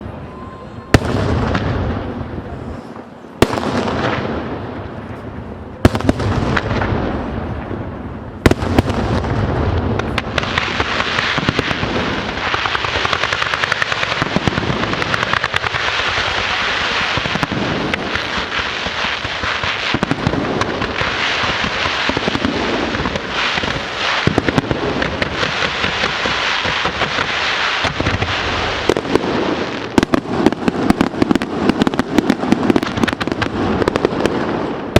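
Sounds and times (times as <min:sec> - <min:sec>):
firework crackling and pops: 0:00.9 - 0:34.9.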